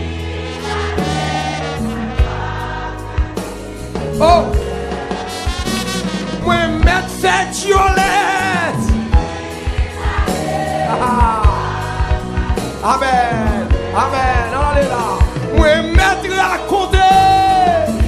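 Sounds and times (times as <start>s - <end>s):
band with bass and drums: 0.0s - 18.0s
people singing gospel song: 0.0s - 18.0s.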